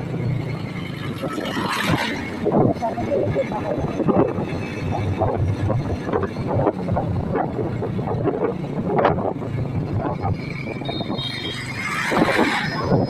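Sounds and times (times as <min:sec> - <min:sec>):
motorcycle engine running: 0:00.0 - 0:11.9
wind buffeting microphone: 0:00.0 - 0:13.0.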